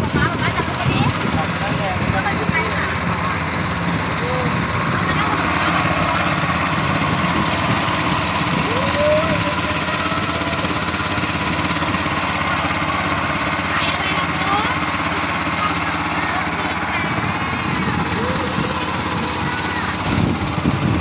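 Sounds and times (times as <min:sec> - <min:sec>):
faint voices: 0:00.0 - 0:21.0
small boat engine running: 0:00.0 - 0:21.0.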